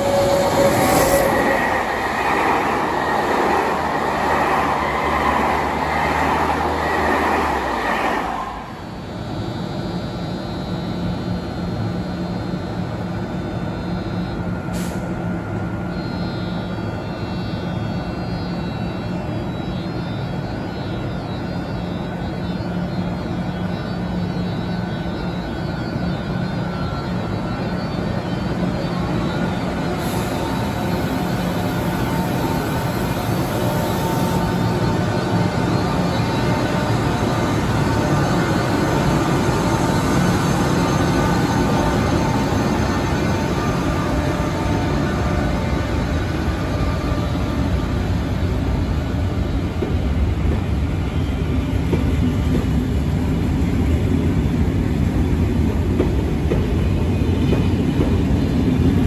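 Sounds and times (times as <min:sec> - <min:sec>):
locomotive humming: 0:00.0 - 0:59.0
loud rail noise droning: 0:00.0 - 0:59.0.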